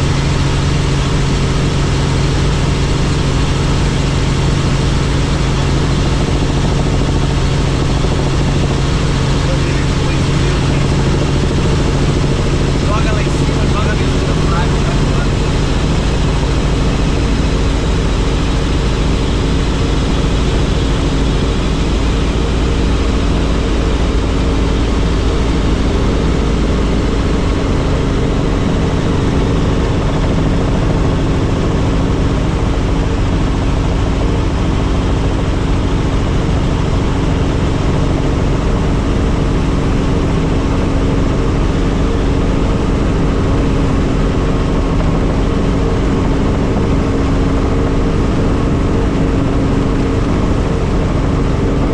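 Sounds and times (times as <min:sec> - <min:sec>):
helicopter rotor and turbine drone: 0:00.0 - 0:51.9.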